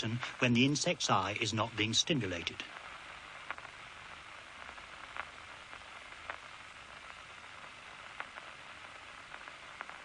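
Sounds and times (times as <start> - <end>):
loudspeaker hiss: 0.0 - 10.0.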